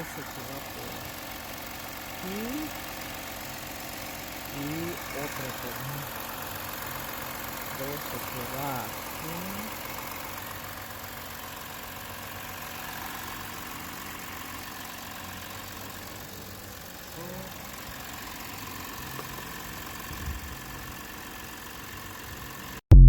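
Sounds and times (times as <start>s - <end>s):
engine idling: 0.0s - 22.9s.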